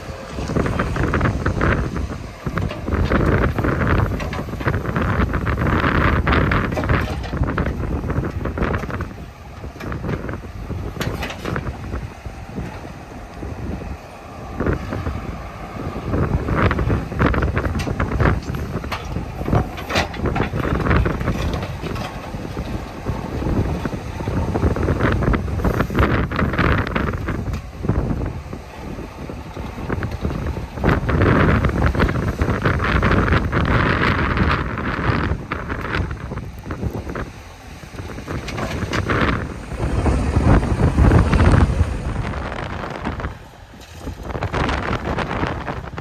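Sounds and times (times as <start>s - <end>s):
diesel engine rumble: 0.0s - 46.0s
wind buffeting microphone: 0.0s - 46.0s.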